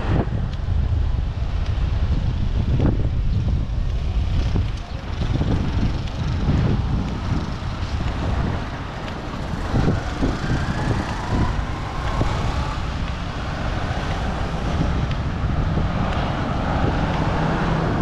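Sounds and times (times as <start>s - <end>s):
passing vehicles: 0.0s - 18.0s
wind buffeting microphone: 0.0s - 18.0s.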